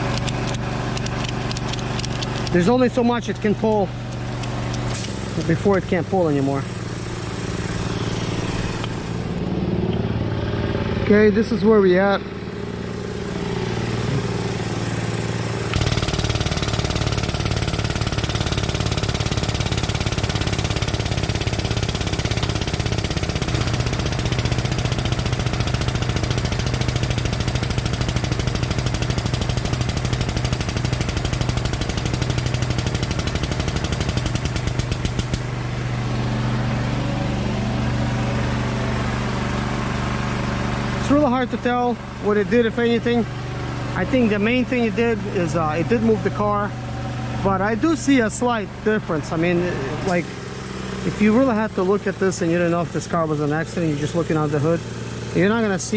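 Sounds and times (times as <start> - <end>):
engine running under load: 0.0 - 55.9.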